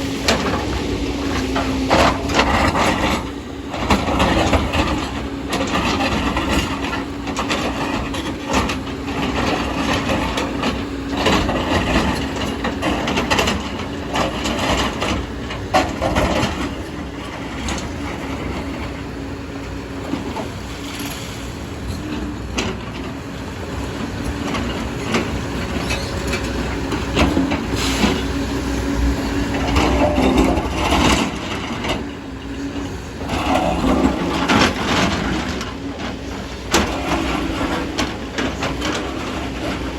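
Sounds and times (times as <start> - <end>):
heavy diesel engine running: 0.0 - 39.9
clanks and knocks of digging: 0.2 - 19.0, 24.0 - 39.9.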